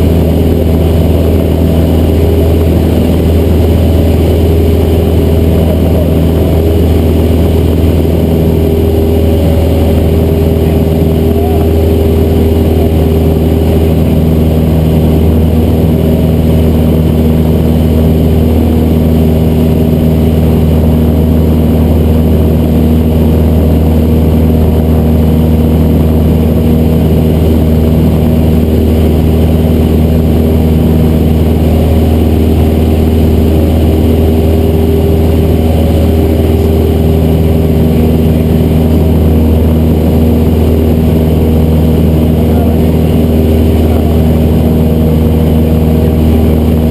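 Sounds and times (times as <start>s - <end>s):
propeller plane engine droning: 0.0s - 46.9s.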